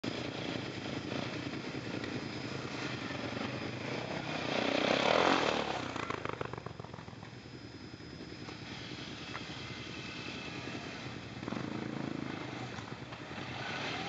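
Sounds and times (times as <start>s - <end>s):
quad bike engines running: 0.0s - 14.0s
quad bike passing: 0.0s - 14.0s.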